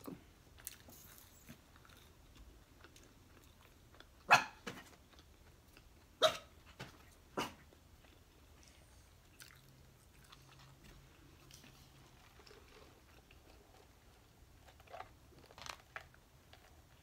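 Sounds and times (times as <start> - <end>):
chewing and mouth sounds: 0.0 - 4.2, 7.0 - 17.0.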